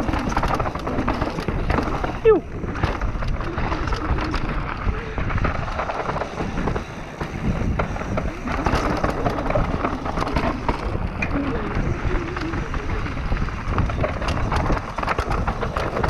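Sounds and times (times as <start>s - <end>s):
bike rattling: 0.0s - 16.0s
tyres rumbling over dirt: 0.0s - 16.0s
wind buffeting microphone: 0.0s - 16.0s.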